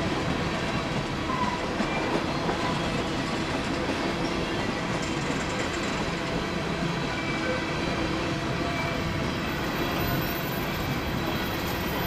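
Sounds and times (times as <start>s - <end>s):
rail car clatter: 0.0s - 12.0s
train wheels rumbling on track: 0.0s - 12.0s.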